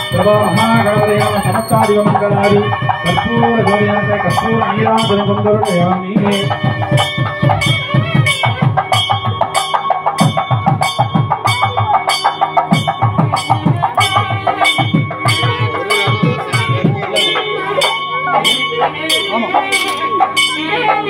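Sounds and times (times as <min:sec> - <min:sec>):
music with percussion beat: 0:00.0 - 0:21.0.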